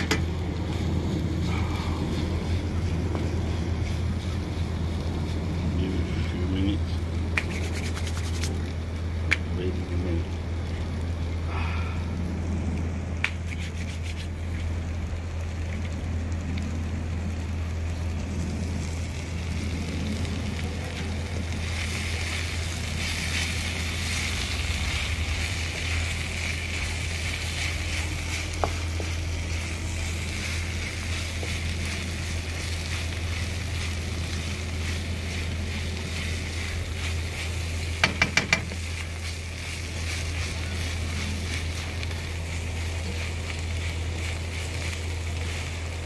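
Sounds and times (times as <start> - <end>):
food sizzling in oil: 0.0 - 9.3, 13.4 - 46.0.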